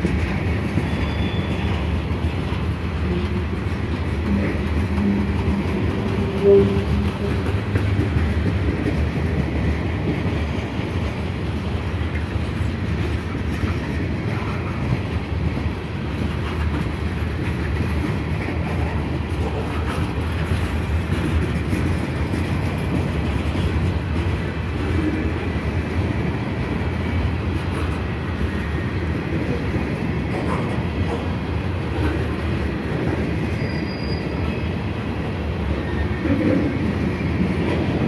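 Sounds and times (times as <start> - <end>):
steel wheels running on rails: 0.0 - 38.0.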